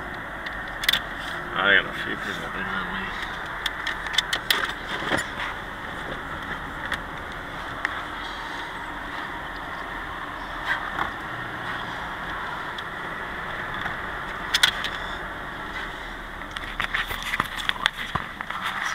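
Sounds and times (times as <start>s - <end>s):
car cabin road and engine noise: 0.0s - 18.9s.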